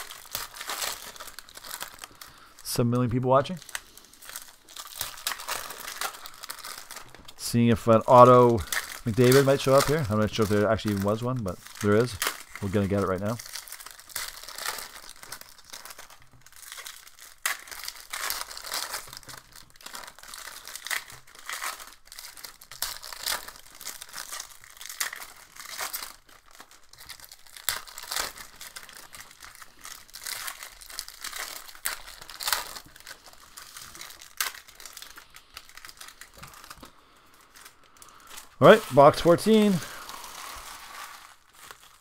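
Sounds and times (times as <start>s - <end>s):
card pack wrappers crinkling and tearing: 0.0s - 42.0s.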